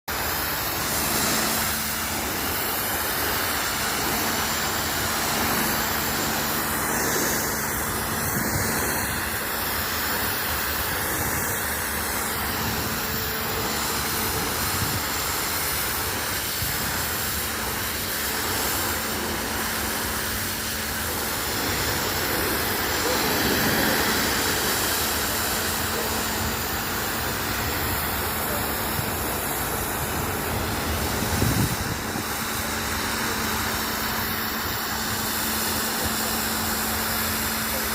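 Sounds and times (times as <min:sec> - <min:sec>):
pressure washer pump hum: 0:00.1 - 0:37.9
water jet hissing: 0:00.1 - 0:37.9.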